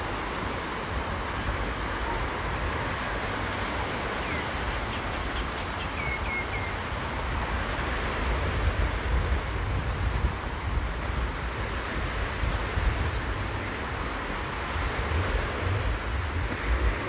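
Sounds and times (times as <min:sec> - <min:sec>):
traffic hiss on wet road: 0:00.0 - 0:17.0.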